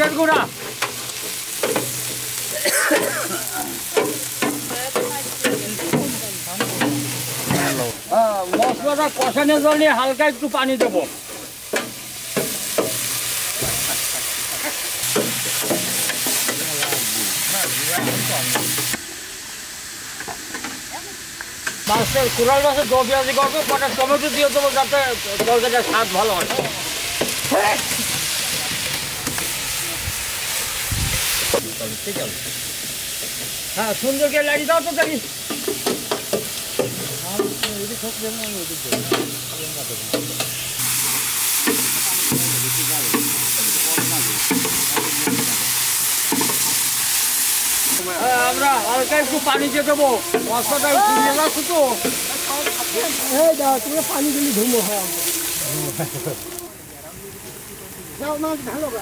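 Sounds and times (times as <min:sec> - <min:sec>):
paste sizzling in oil: 0:00.0 - 0:59.0.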